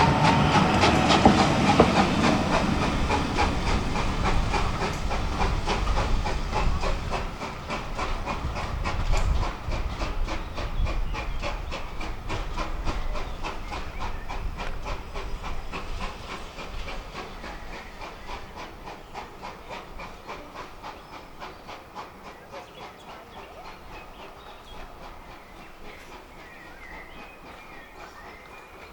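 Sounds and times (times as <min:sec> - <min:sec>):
train passing: 0:00.0 - 0:28.9
wheels clicking over rail joints: 0:00.0 - 0:28.9.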